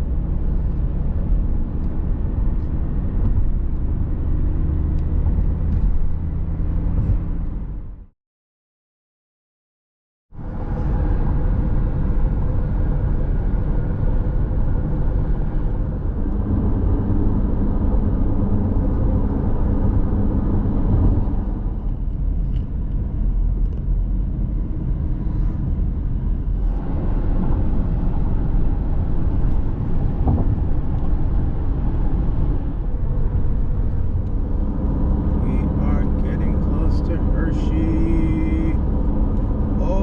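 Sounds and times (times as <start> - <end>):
car cabin road noise: 0.0 - 8.0, 10.4 - 40.0.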